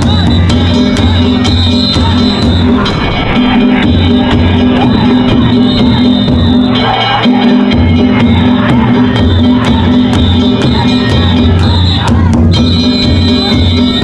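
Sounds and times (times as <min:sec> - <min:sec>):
crowd shouting and whooping: 0:00.0 - 0:14.0
loud music with heavy beat: 0:00.0 - 0:14.0.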